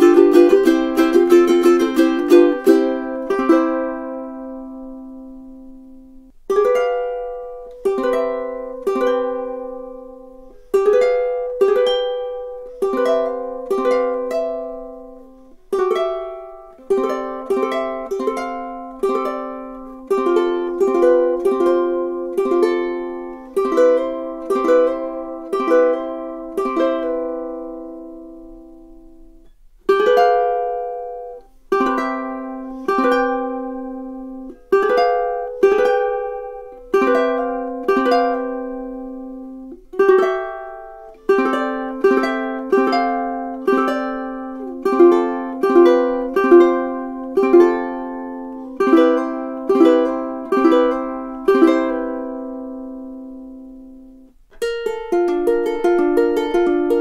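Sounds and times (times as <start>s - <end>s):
ukulele playing: 0.0s - 57.0s.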